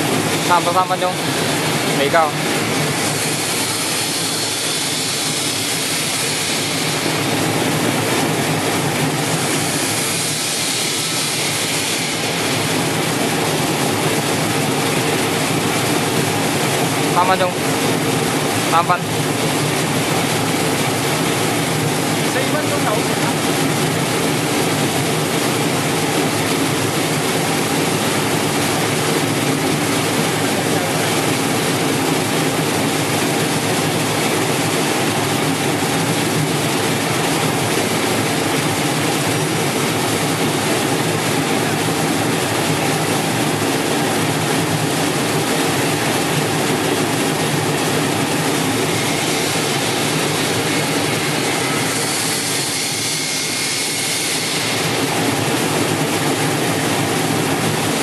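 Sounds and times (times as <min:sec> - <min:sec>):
potato washing machine whirring: 0:00.0 - 0:58.0.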